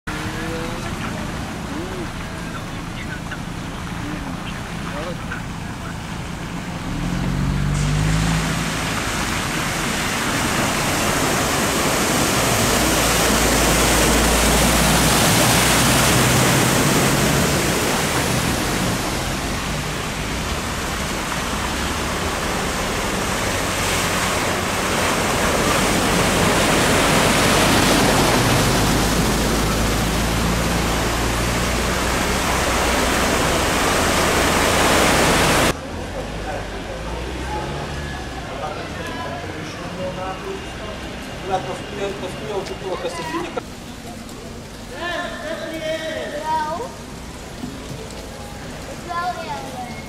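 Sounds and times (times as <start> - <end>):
floodwater splashing from cars: 0.1 - 50.0.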